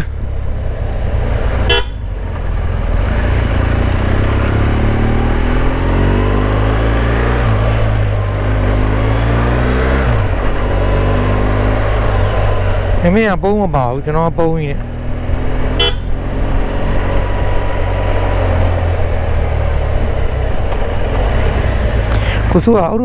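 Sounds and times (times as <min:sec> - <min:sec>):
motorcycle engine accelerating: 0:00.0 - 0:22.7
road and wind noise: 0:00.0 - 0:23.0.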